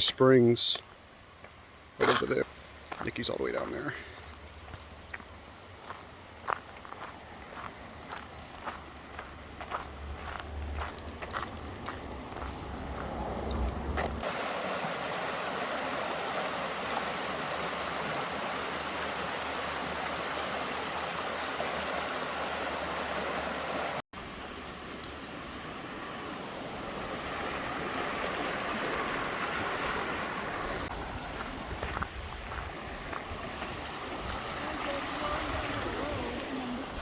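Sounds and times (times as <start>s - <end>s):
stream flowing: 0.0s - 37.0s.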